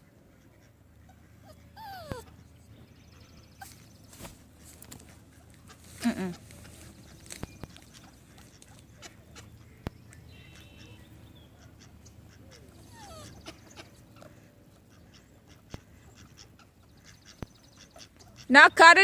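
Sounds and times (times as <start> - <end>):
faint bird calls: 0.3 - 18.5.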